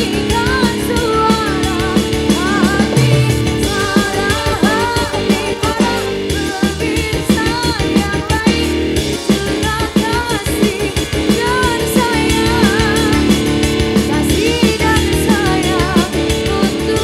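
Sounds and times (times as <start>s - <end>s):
drums keeping a steady beat: 0.0s - 17.0s
live band playing: 0.0s - 17.0s
woman singing with vibrato: 0.0s - 17.0s.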